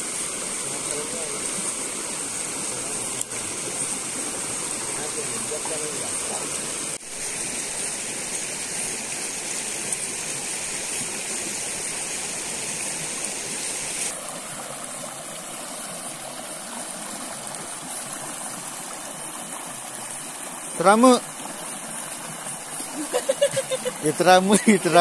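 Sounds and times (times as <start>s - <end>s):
stream rushing over stones: 0.0s - 25.0s.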